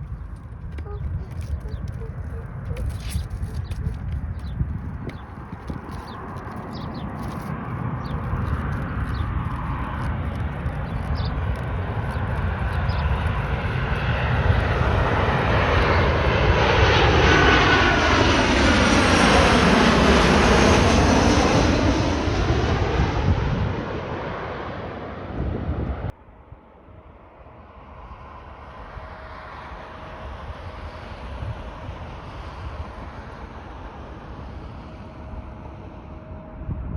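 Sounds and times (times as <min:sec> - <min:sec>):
jet airliner passing overhead: 0:00.0 - 0:36.9.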